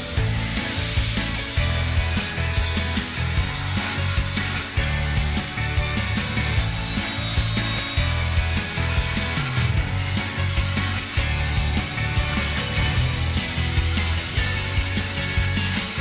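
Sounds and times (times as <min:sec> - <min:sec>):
angle grinder grinding steel: 0:00.0 - 0:16.0
background music with pulsing bass: 0:00.0 - 0:16.0.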